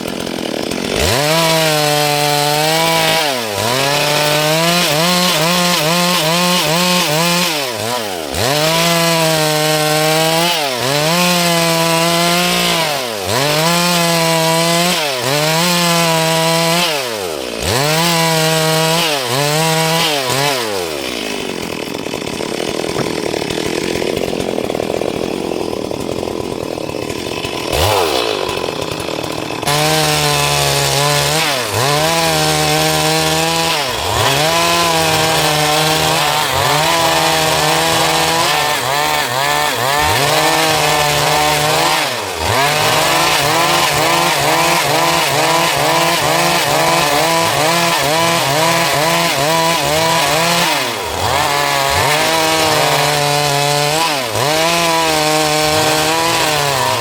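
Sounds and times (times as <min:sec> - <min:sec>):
chainsaw cutting a log: 0:00.0 - 0:57.0.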